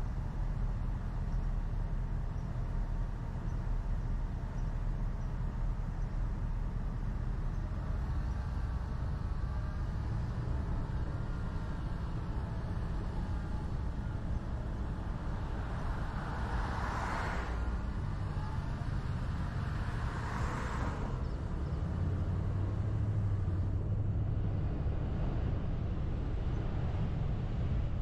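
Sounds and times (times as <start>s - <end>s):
car driving on road: 0.0s - 28.0s.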